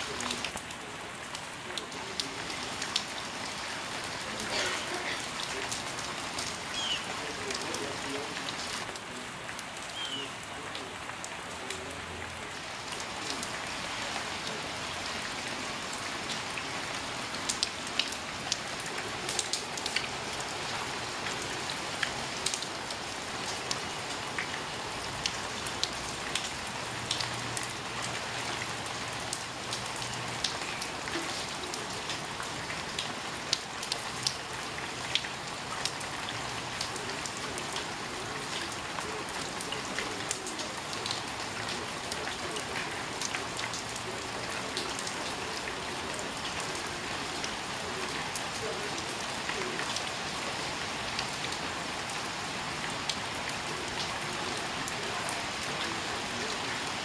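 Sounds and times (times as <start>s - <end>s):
steady rain on puddles: 0.0s - 57.0s.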